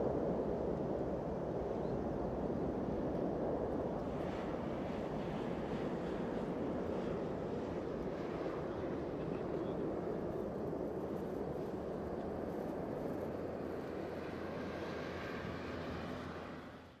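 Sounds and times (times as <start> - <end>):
distant jet engines roaring: 0.0 - 17.0.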